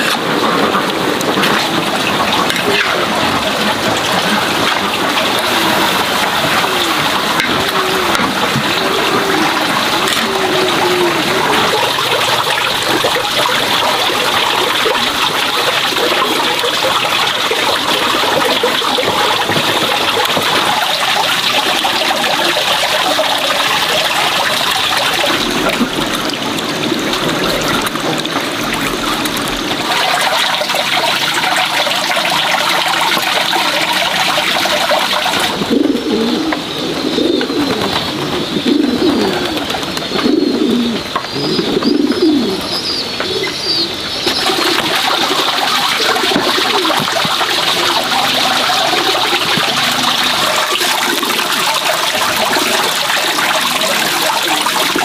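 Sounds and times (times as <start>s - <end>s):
pigeons cooing: 0.0s - 55.0s
running water: 0.0s - 55.0s.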